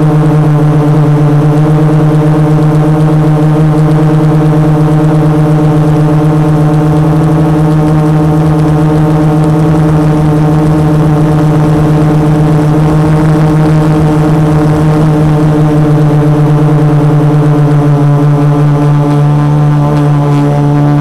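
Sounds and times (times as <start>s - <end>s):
quadcopter propellers humming: 0.0s - 21.0s.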